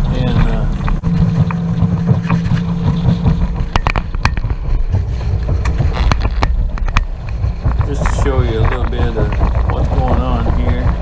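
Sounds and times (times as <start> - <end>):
outboard motor humming: 0.0 - 11.0
sharp knocks: 0.0 - 11.0
wind buffeting microphone: 0.0 - 11.0.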